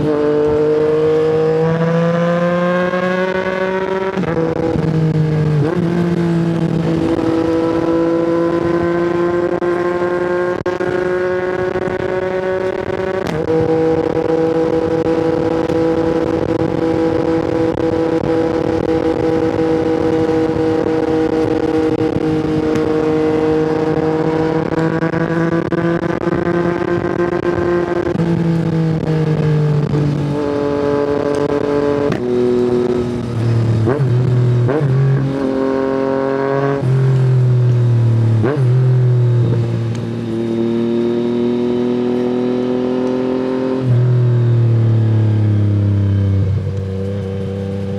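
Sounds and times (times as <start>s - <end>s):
motorcycle engine while riding: 0.0s - 47.9s.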